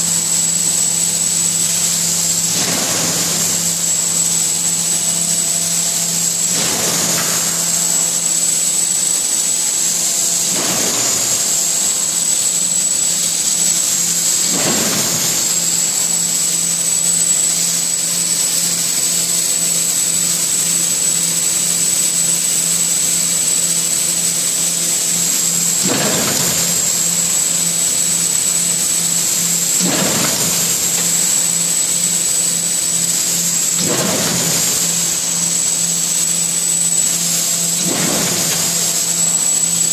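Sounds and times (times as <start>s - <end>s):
machine humming with high whine: 0.0s - 39.9s.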